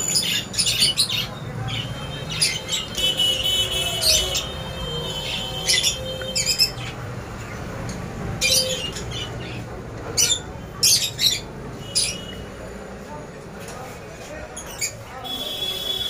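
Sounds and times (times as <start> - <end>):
caged birds chirping and squawking: 0.0 - 13.0, 14.1 - 16.0.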